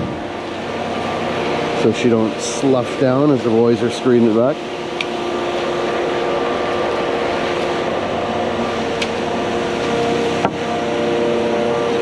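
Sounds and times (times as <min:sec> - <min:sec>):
concrete pump truck drone: 0:00.0 - 0:12.0.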